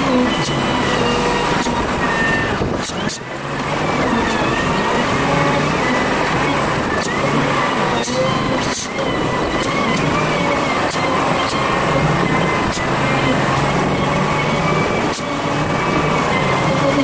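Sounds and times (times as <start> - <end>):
sped up engine drone: 0.0 - 17.0.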